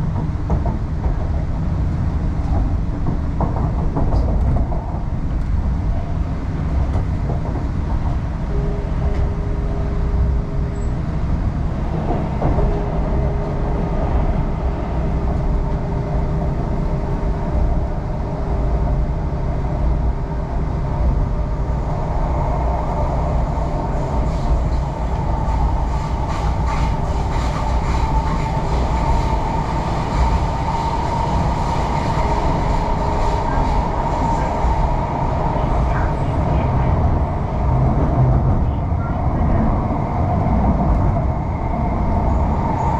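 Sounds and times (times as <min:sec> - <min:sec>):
wheels rumbling on rail: 0:00.0 - 0:42.9.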